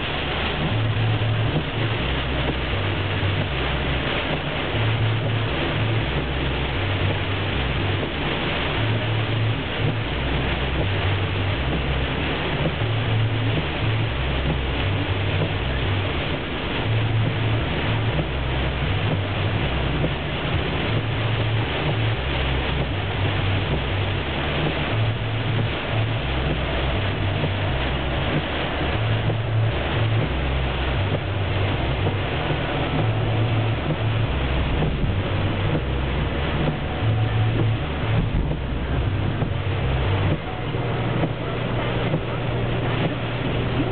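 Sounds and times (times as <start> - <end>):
low uneven rumble: 0.0 - 43.9
rain hitting vehicle body: 0.0 - 43.9
tyres hissing on wet road: 0.0 - 43.9.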